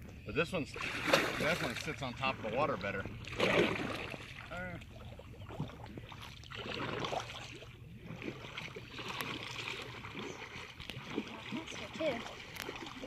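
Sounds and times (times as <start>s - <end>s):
kayak paddle splashing in water: 0.7s - 13.0s.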